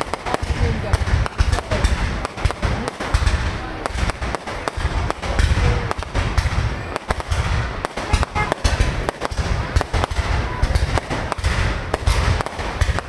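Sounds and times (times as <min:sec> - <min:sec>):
fireworks sharp bangs: 0:00.0 - 0:13.0
low rumble of booms: 0:00.4 - 0:13.0.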